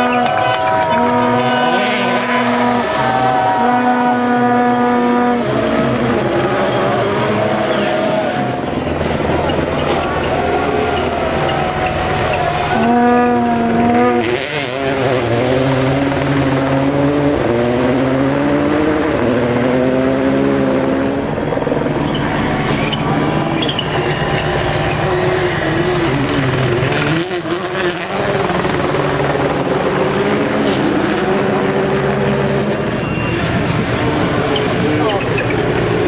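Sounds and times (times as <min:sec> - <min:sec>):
engine crackles: 0:00.0 - 0:36.0
rally car engine at full throttle: 0:00.0 - 0:36.0.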